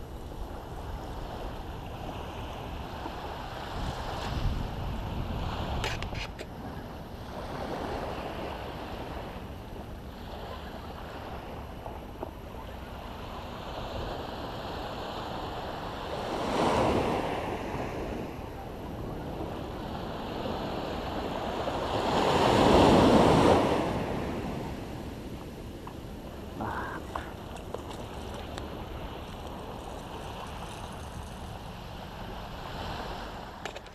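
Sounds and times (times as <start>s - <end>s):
ocean surf on sandy beach: 0.0s - 33.9s.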